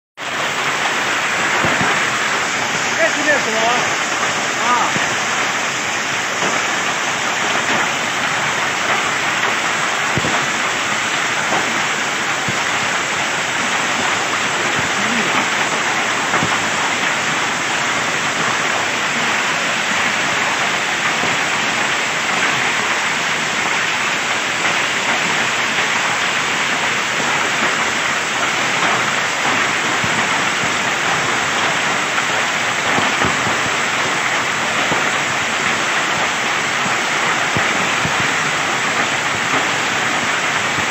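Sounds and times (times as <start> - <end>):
hail hitting the ground: 0.2 - 40.9.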